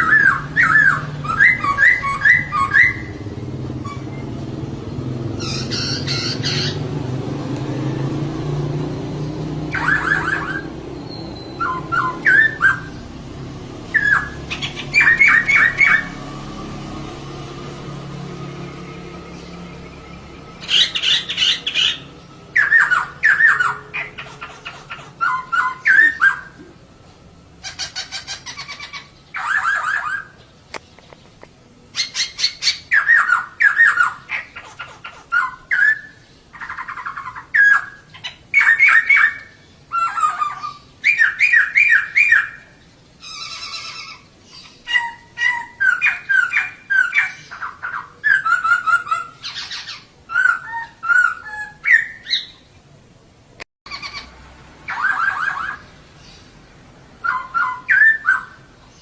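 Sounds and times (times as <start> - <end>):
bird chattering and squawking: 0.0 - 7.0, 9.7 - 16.3, 19.3 - 26.6, 27.6 - 52.7, 53.9 - 56.5, 57.2 - 59.0.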